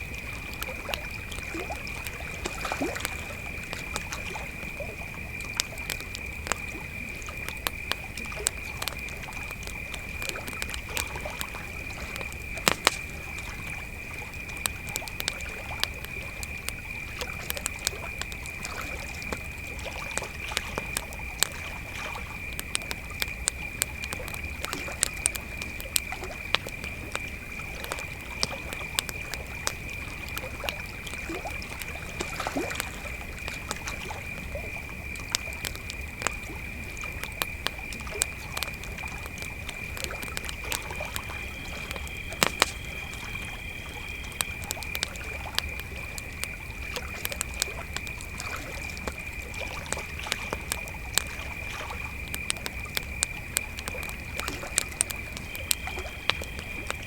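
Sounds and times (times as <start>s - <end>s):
campfire crackling and popping: 0.0s - 57.0s
crickets chirring: 0.0s - 57.0s.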